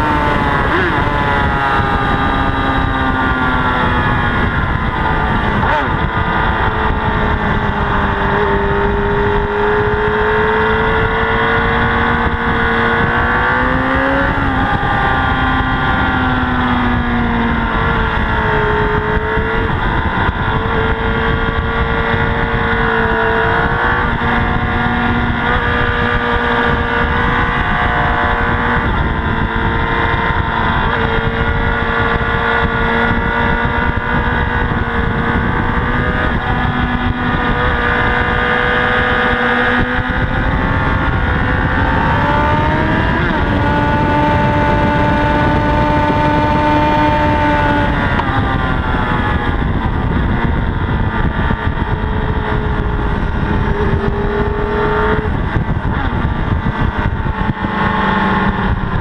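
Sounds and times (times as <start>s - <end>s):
heavy wind rush: 0.0s - 59.0s
motorcycle engine revving: 0.0s - 59.0s.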